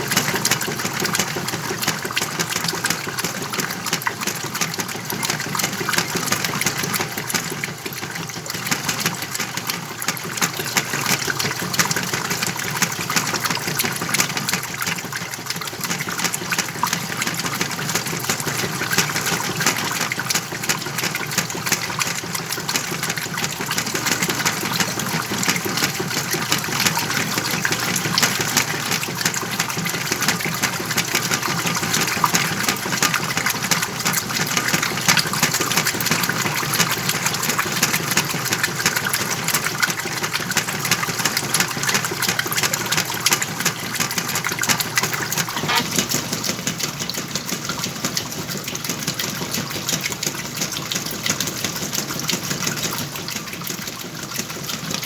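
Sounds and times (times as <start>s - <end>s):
washing machine running: 0.0s - 55.0s
water gushing and sloshing: 0.0s - 55.0s.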